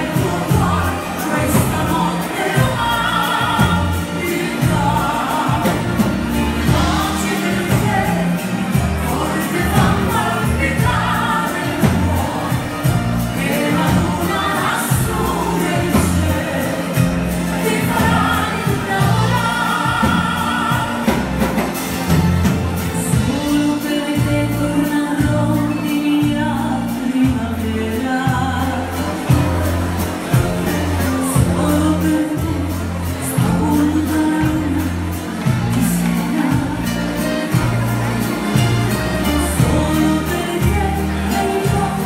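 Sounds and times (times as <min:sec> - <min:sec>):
female and male singing: 0:00.0 - 0:21.6, 0:23.0 - 0:29.8, 0:30.4 - 0:37.8, 0:39.2 - 0:42.0
accordion: 0:00.0 - 0:42.0
live band music: 0:00.0 - 0:42.0.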